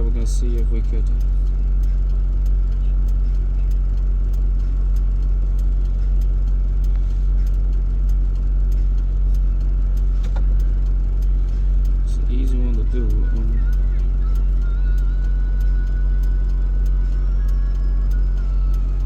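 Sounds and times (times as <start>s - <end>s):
engine idling with fast ticking: 0.0s - 19.0s.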